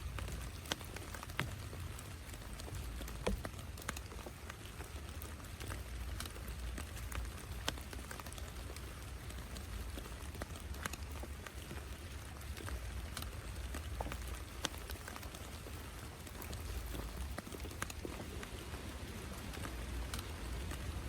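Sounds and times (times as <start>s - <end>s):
raindrops tapping: 0.0s - 21.0s
steady rain: 0.0s - 21.0s.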